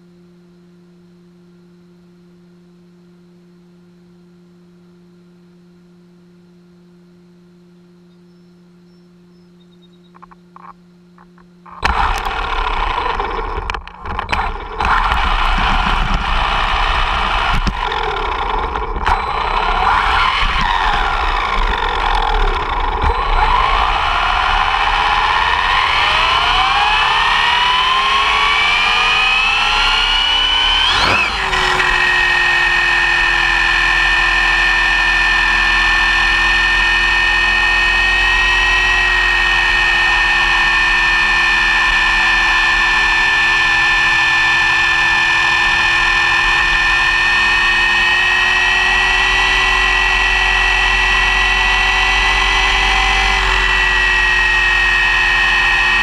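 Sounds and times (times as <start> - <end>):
electric motor whining: 10.1 - 56.0
road rumble: 10.2 - 56.0.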